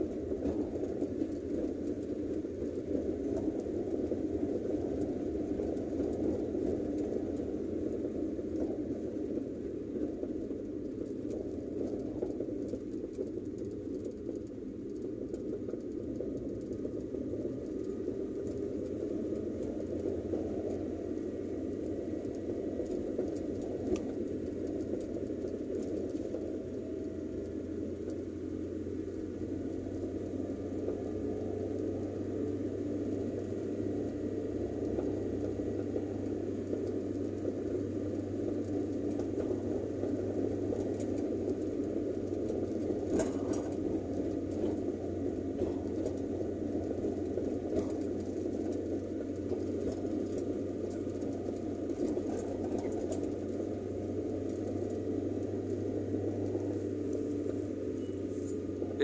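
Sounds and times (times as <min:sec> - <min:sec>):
car engine and tyre noise: 0:00.0 - 0:59.0
light clicks and rattles: 0:00.0 - 0:59.0.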